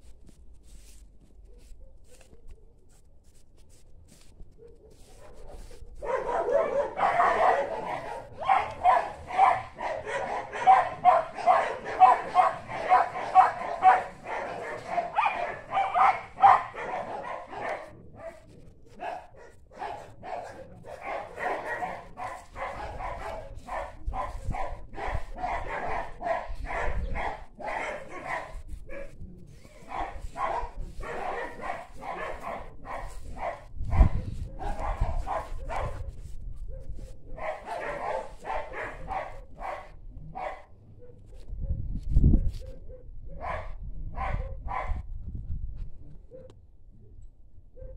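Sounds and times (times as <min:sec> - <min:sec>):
dog barking: 0:04.6 - 0:45.1, 0:46.2 - 0:46.6.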